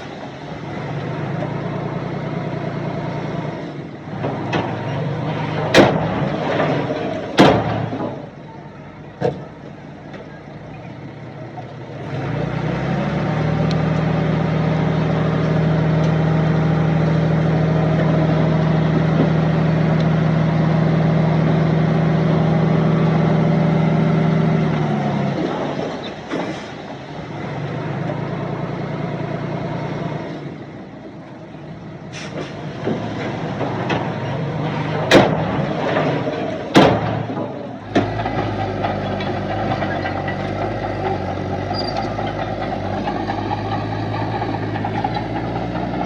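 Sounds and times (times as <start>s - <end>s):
heavy machinery diesel engine: 0.0s - 46.0s.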